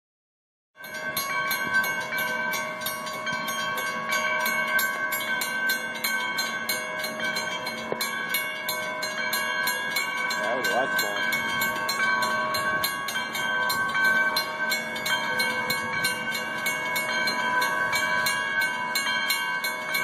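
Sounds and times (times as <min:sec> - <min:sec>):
railroad crossing bell ringing: 0:00.8 - 0:20.0.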